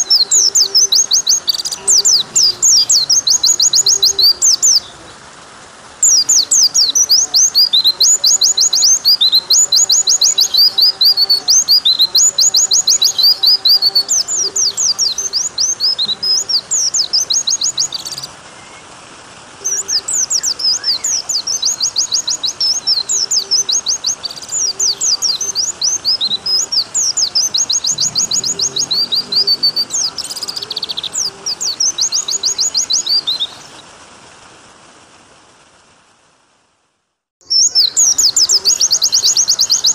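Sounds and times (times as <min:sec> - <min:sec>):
high thin bird chirps: 0:00.0 - 0:05.0, 0:06.0 - 0:18.8, 0:19.6 - 0:33.8, 0:37.4 - 0:39.9
running water: 0:00.0 - 0:36.8, 0:37.4 - 0:39.9.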